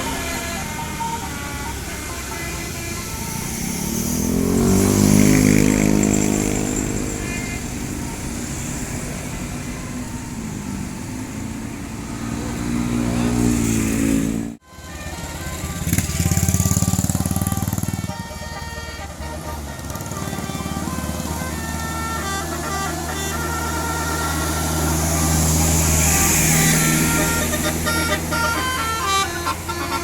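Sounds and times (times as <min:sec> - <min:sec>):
vehicle engines passing by: 0:00.0 - 0:30.0.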